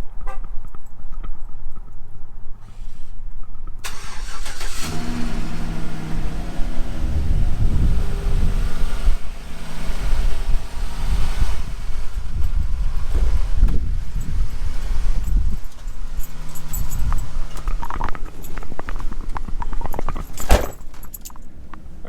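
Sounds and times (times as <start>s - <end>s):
car engine starting and rumbling: 2.4s - 22.0s.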